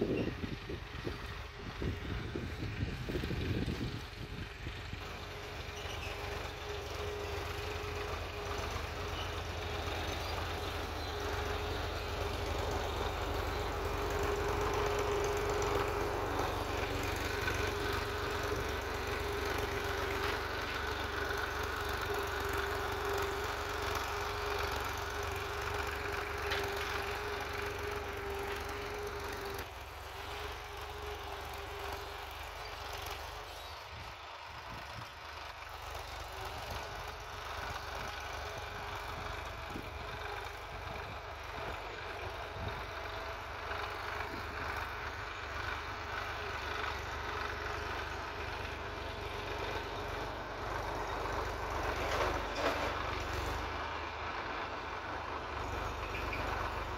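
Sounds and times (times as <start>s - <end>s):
machine humming and rumbling: 0.0s - 56.9s.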